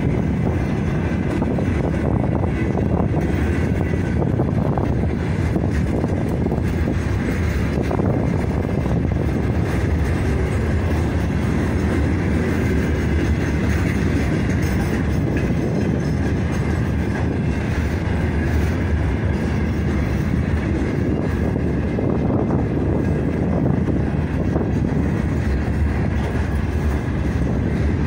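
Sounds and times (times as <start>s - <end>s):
freight train wheels on rails: 0.0s - 28.0s.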